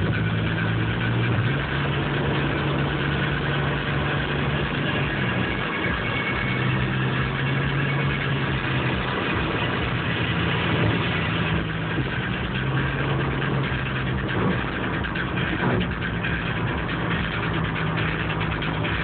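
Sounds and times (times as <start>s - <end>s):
car engine droning: 0.0s - 19.0s
tyre and road noise: 0.0s - 19.0s.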